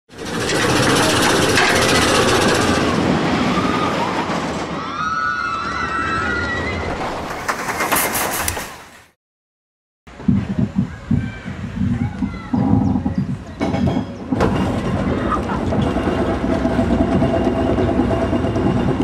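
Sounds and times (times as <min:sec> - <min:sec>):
roller coaster rattling rumble: 0:00.1 - 0:08.8, 0:10.1 - 0:19.0.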